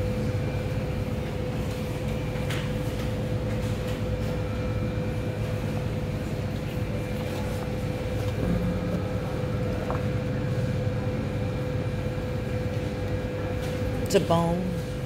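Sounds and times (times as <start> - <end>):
mid-pitched hum: 0.0 - 15.0.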